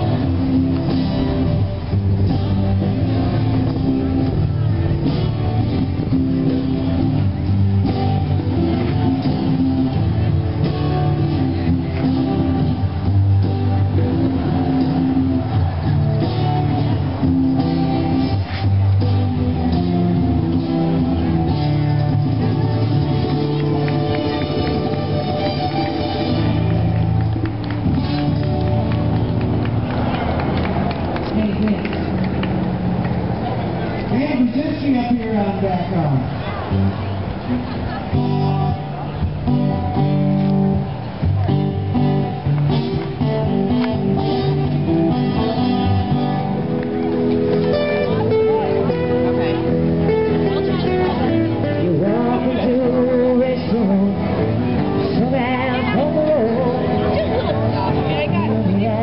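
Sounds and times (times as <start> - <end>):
music with guitar: 0.0 - 59.0.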